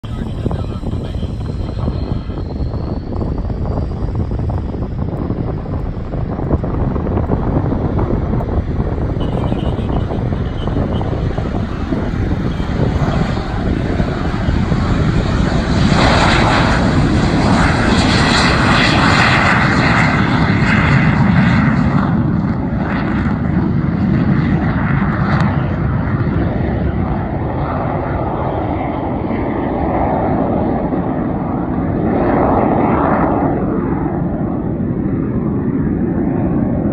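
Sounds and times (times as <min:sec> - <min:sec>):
jet engine roaring: 0:00.0 - 0:36.9.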